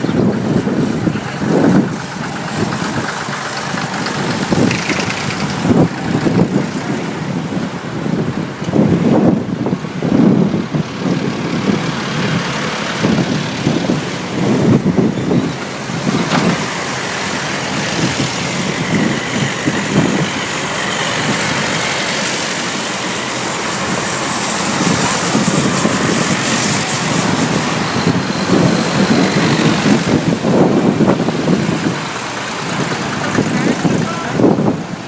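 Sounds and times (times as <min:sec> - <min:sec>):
tractor engines passing by: 0:00.0 - 0:35.0.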